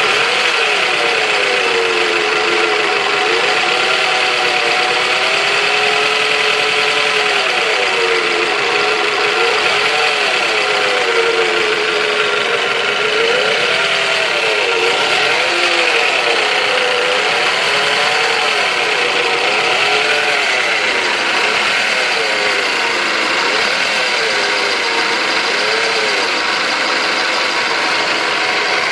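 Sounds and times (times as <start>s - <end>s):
engine wheezy whirring tone: 0.0s - 28.9s.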